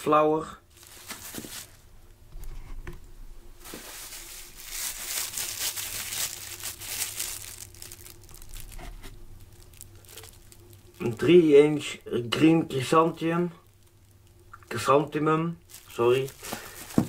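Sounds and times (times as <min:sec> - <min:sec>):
plastic wrapping crinkling: 0:00.7 - 0:02.1, 0:03.6 - 0:12.5, 0:13.1 - 0:17.0.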